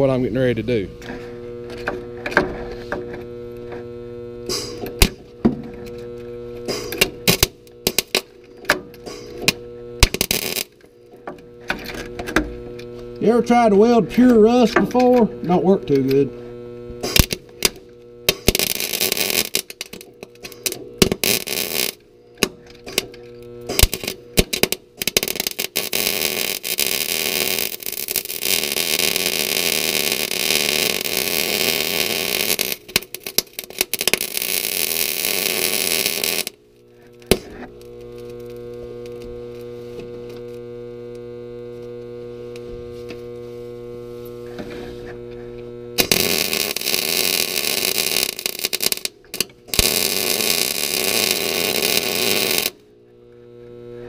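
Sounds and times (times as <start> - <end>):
arc welder crackling: 0.0 - 54.0
steady electrical hum: 0.0 - 54.0.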